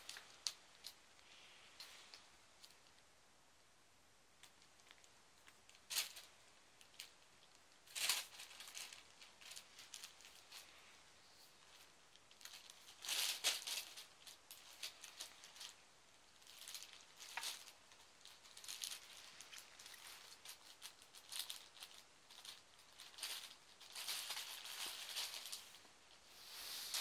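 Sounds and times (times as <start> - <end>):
plastic bag crinkling: 4.4 - 10.8, 11.6 - 27.0.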